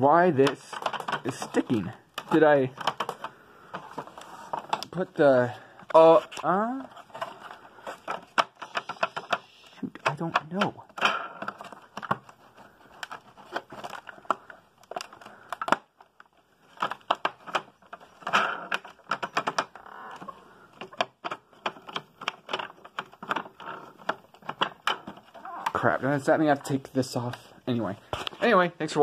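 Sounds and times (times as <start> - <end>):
plastic clicks and knocks: 0.4 - 5.1, 5.8 - 25.9.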